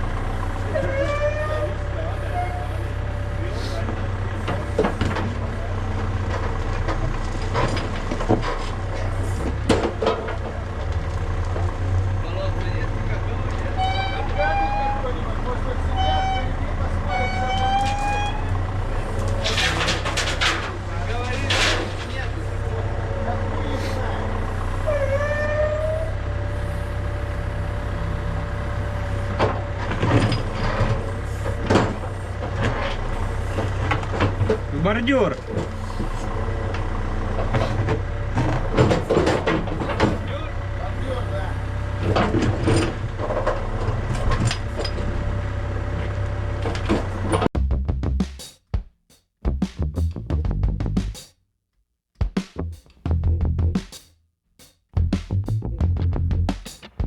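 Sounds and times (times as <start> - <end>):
diesel engine running: 0.0 - 48.1.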